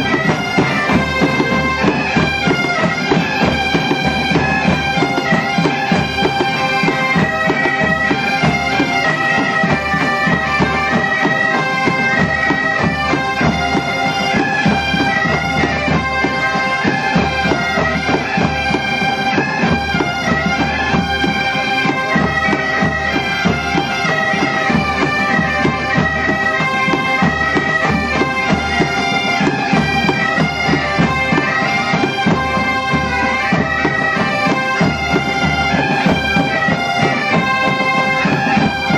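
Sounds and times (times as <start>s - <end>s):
bagpipes playing with drone: 0.0s - 38.9s
bass and snare drums beating: 0.0s - 38.9s.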